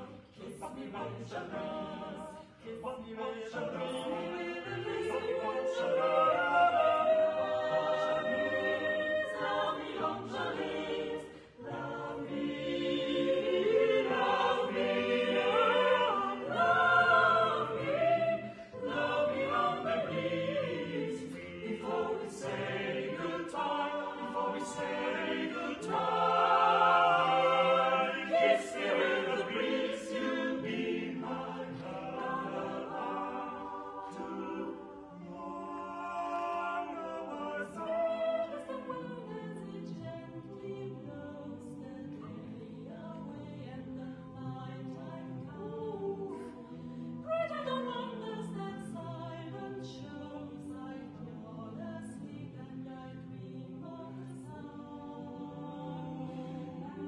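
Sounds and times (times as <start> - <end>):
mixed choir singing a cappella: 0.0 - 57.0.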